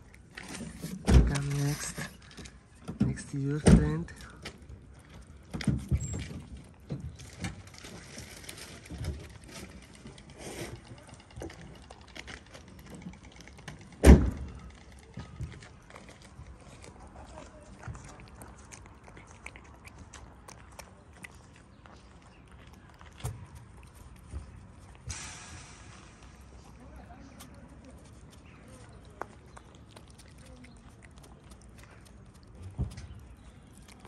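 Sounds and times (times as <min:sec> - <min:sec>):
cats chewing and lapping food: 0:00.0 - 0:34.0.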